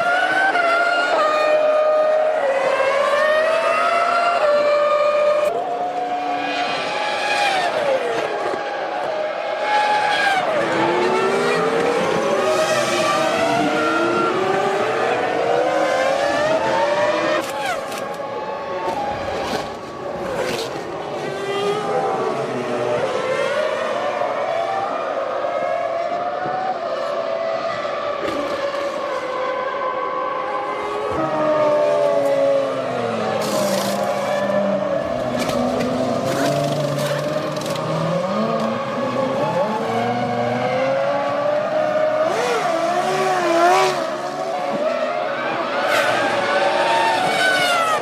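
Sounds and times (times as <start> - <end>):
racing car passing loudly: 0.0 - 48.0.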